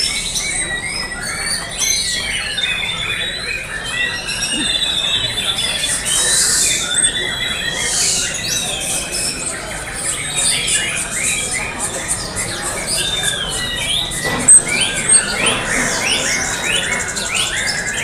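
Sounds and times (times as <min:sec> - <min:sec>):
birds singing whistles and trills: 0:00.0 - 0:18.0.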